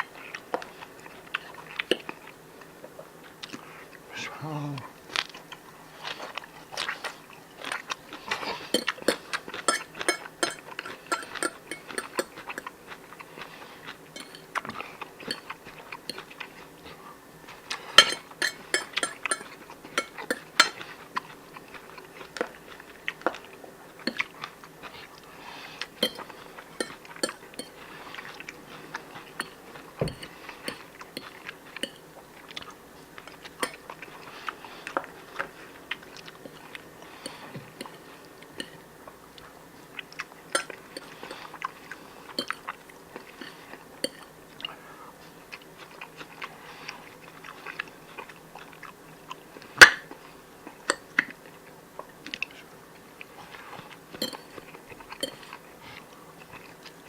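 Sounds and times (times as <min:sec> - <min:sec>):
person chewing: 0:00.0 - 0:04.1, 0:05.0 - 0:57.0.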